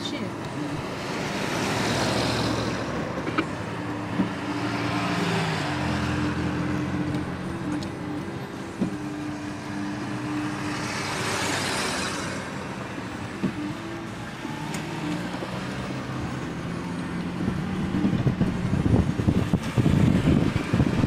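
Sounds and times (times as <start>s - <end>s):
car engine and tyre hum: 0.0s - 21.0s.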